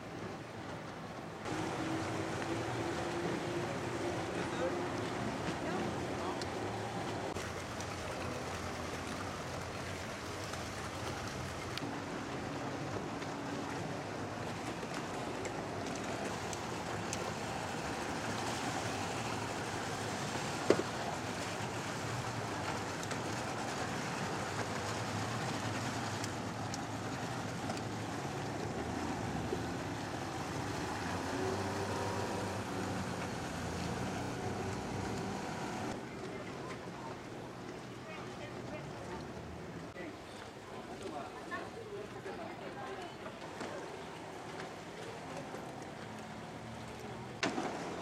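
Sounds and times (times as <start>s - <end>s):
churning water: 0.0s - 48.0s
outboard motors running: 0.1s - 48.0s.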